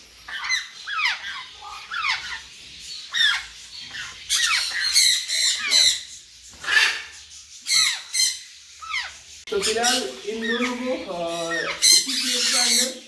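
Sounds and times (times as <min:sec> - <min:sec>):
parrot chicks squawking: 0:00.0 - 0:13.0.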